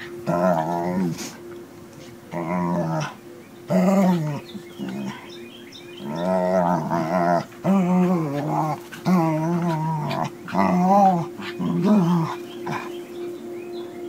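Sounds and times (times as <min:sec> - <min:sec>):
dogs growling: 0:00.0 - 0:01.4, 0:02.3 - 0:05.4, 0:06.0 - 0:13.2.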